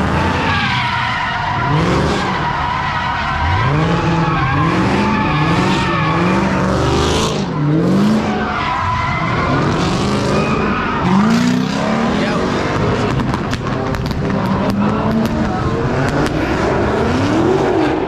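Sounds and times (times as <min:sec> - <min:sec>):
tyres screeching: 0:00.0 - 0:17.8
car engine revving: 0:00.0 - 0:18.0.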